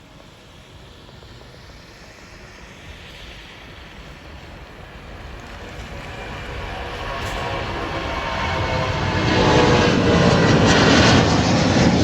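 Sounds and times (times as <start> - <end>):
jet airliner engines rushing: 0.0 - 12.0.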